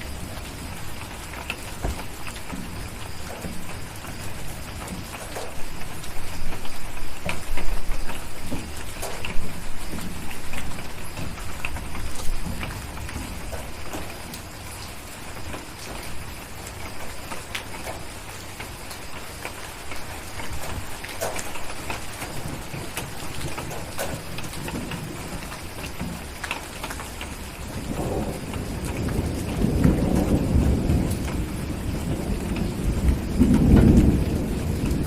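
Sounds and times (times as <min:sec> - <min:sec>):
distant thunder rumbling: 0:00.0 - 0:18.8, 0:19.4 - 0:26.4, 0:27.3 - 0:35.0
steady rain: 0:00.0 - 0:35.0.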